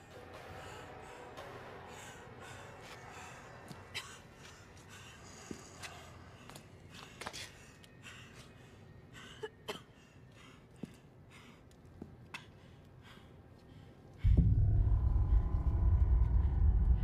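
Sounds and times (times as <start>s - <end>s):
faint breaths and sighs: 0.0s - 17.0s.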